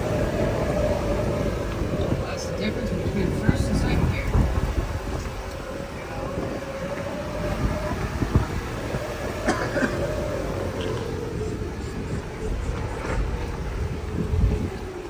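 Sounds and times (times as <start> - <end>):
drivetrain whine: 0.0 - 15.0
road rumble: 0.0 - 15.0.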